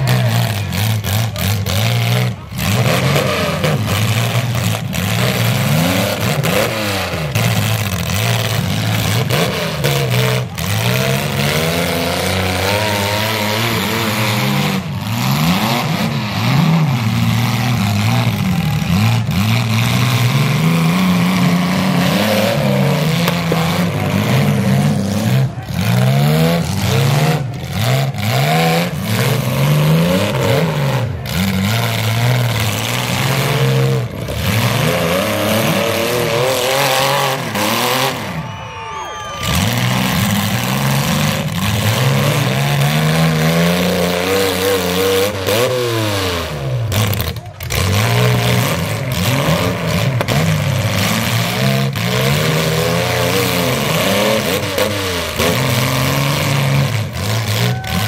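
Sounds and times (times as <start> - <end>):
car engines revving: 0.0 - 58.0
cars ramming each other: 0.0 - 58.0.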